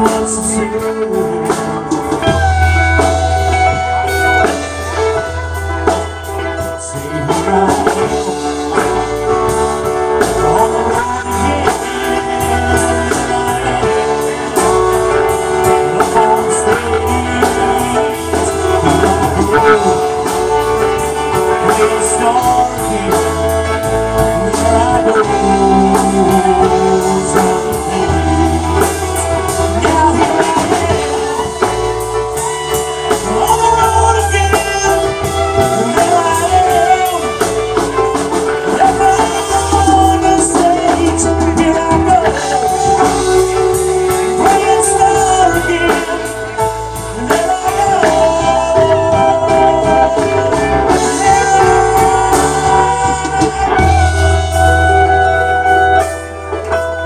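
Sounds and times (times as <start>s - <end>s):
bass line: 0.0s - 57.0s
drum kit with cymbals: 0.0s - 57.0s
electric guitar: 0.0s - 57.0s
harmonica bending notes: 0.0s - 57.0s.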